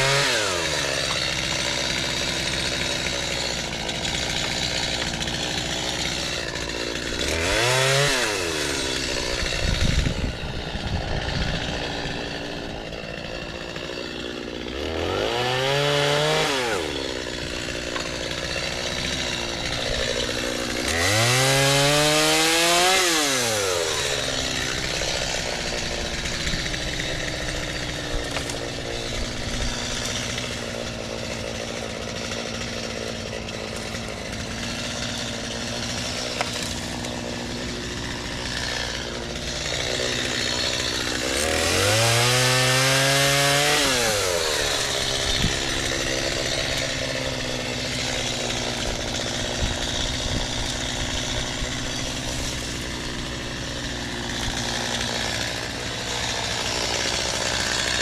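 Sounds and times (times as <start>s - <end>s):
chainsaw running: 0.0s - 58.0s.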